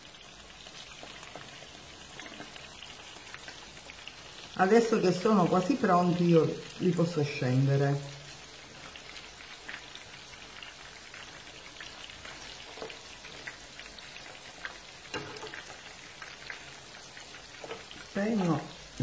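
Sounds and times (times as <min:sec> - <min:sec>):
oil sizzling and crackling: 0:00.0 - 0:19.0.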